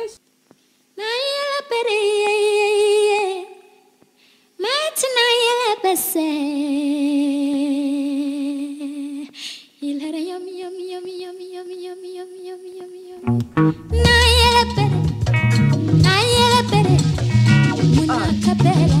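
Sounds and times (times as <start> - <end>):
person singing unaccompanied: 1.0 - 3.8, 4.6 - 19.0.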